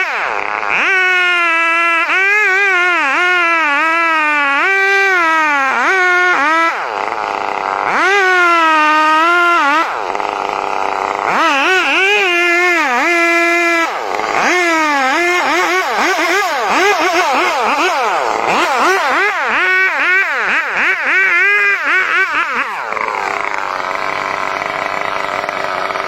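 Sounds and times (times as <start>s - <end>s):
chainsaw engine bogging under load: 0.0s - 26.0s.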